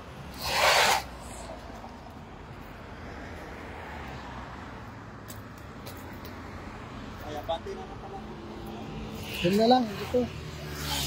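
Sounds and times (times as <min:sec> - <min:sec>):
background traffic rumble: 0:00.0 - 0:11.0.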